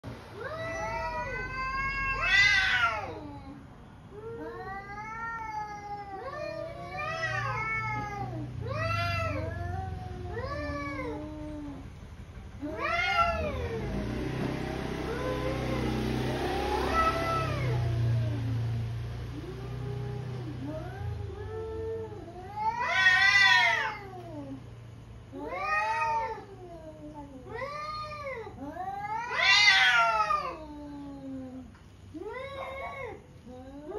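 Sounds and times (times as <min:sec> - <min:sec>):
cats yowling: 0:00.3 - 0:12.0, 0:12.6 - 0:14.1, 0:14.7 - 0:24.7, 0:25.3 - 0:33.9.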